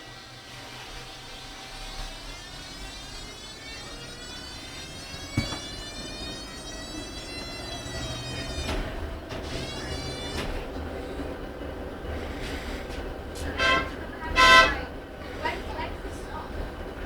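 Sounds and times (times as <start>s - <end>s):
tram motors whining: 0.0s - 17.0s.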